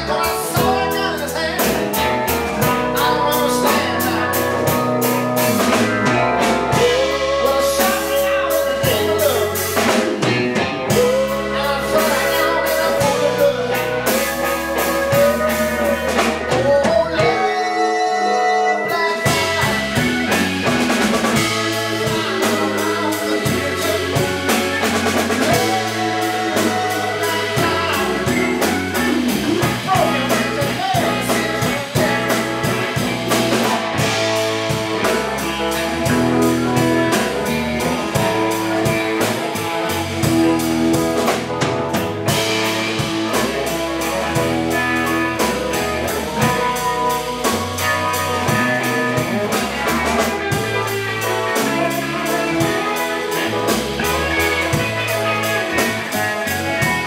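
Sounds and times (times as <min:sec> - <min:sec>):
drum kit: 0:00.0 - 0:57.0
electric bass: 0:00.0 - 0:57.0
electric guitar: 0:00.0 - 0:57.0
keyboard: 0:00.0 - 0:57.0.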